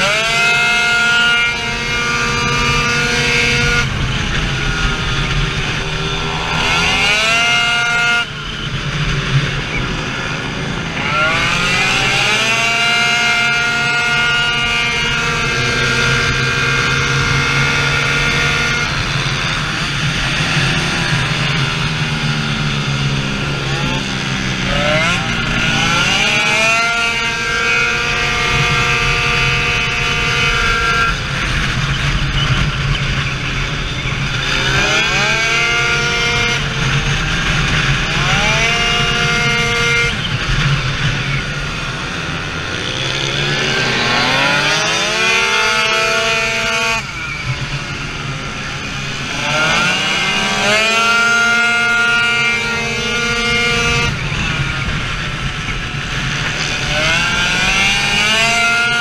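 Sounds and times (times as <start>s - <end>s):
two-stroke scooter engine revving: 0.0s - 59.0s.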